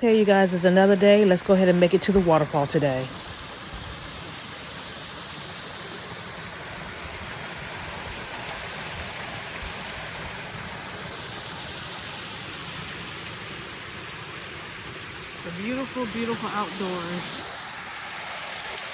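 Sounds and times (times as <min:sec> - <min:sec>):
stream of running water: 0:00.0 - 0:18.9.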